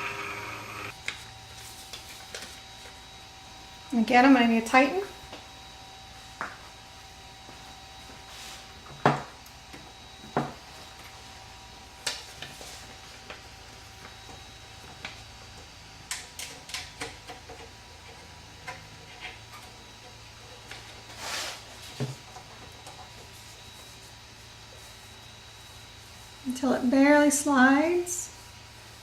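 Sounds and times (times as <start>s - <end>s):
faint electrical hum: 0.0s - 29.0s.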